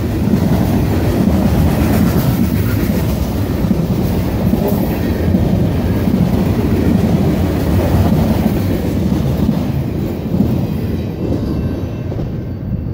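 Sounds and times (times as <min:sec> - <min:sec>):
freight train rumbling on rails: 0:00.0 - 0:12.9.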